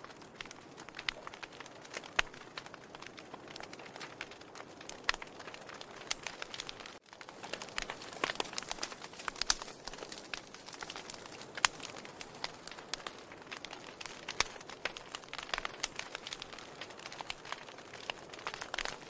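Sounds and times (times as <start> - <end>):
burning wood crackling: 0.0 - 19.0.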